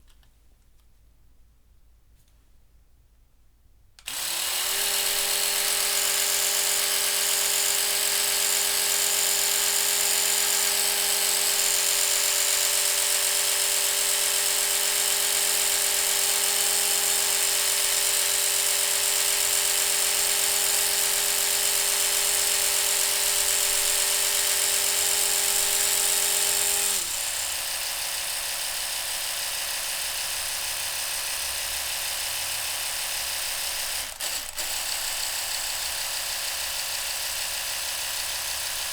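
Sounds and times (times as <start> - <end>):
electric toothbrush buzzing: 4.1 - 38.9.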